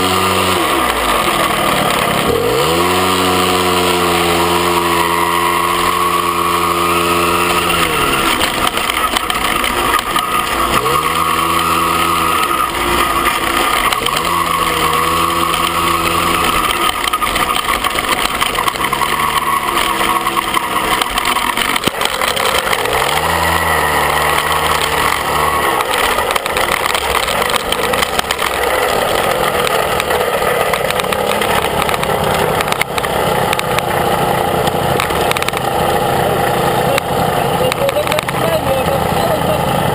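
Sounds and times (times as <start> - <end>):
moped engine revving: 0.0 - 39.9.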